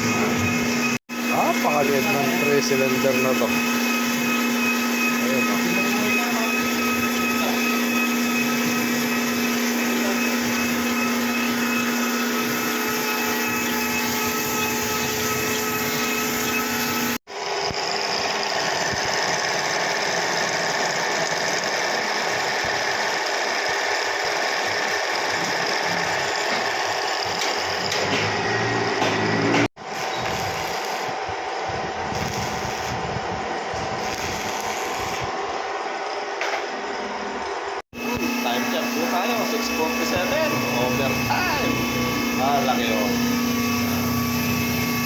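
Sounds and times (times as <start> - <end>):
machine humming with whine: 0.0 - 21.4, 25.3 - 45.0
harsh steady machine noise: 0.0 - 45.0.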